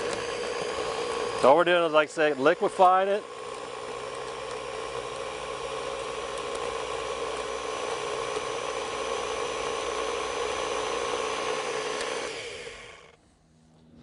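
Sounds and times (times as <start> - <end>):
blender motor whining: 0.0 - 13.2.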